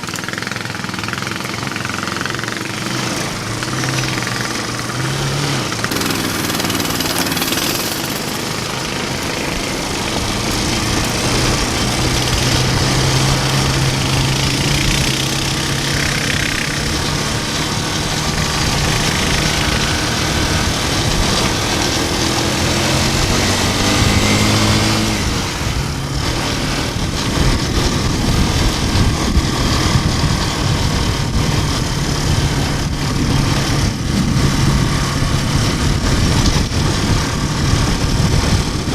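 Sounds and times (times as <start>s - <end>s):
small engine running under load: 0.0s - 38.9s.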